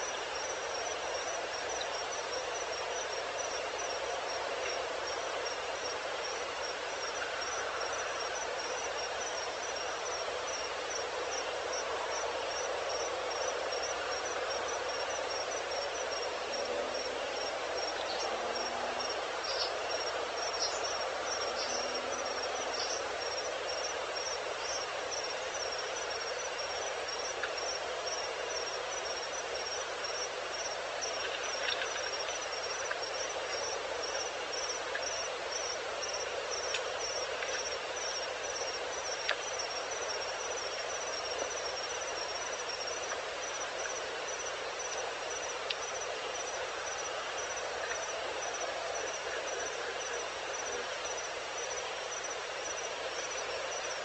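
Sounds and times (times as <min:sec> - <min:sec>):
background hiss: 0:00.0 - 0:54.0
insect chirping steadily: 0:00.0 - 0:54.0.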